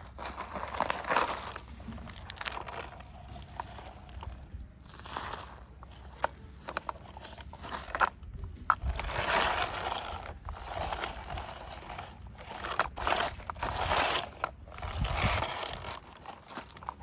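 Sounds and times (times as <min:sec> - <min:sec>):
toy loader crunching on grit: 0:00.0 - 0:17.0.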